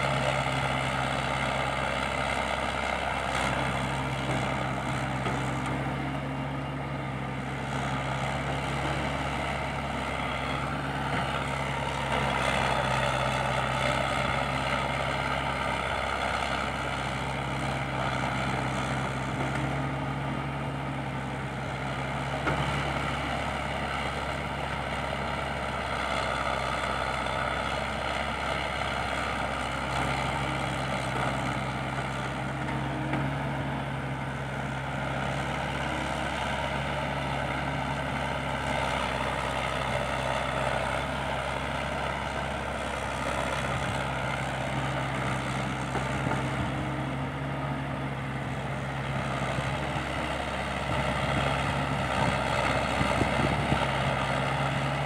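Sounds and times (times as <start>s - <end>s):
excavator diesel engine running hard: 0.0s - 55.0s.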